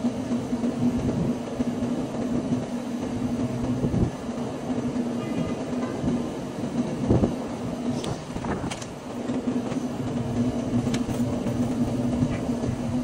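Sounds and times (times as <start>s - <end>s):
air rushing through fan: 0.0s - 13.0s
fan motor hum: 0.0s - 13.0s.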